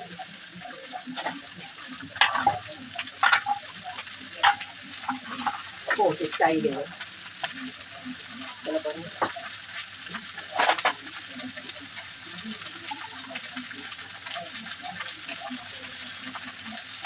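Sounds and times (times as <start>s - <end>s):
okra sizzling in a pan: 0.0s - 17.0s.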